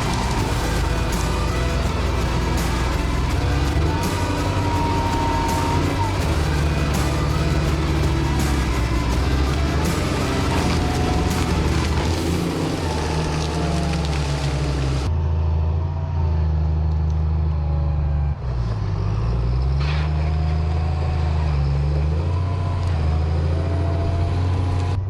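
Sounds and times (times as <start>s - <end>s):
heavy machine engine revving: 0.0s - 25.0s.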